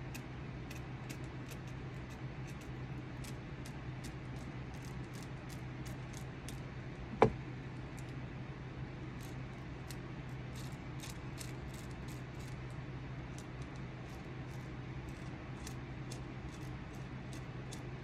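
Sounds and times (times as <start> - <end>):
knife shaving wood: 0.0 - 6.7, 9.1 - 18.0
steady low hum: 0.0 - 18.0.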